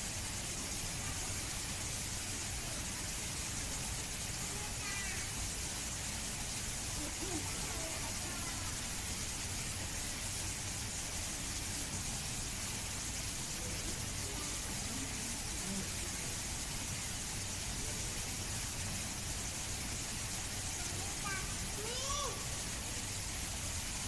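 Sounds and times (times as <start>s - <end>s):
background hiss: 0.0s - 24.0s
faint distant voices: 0.1s - 24.0s.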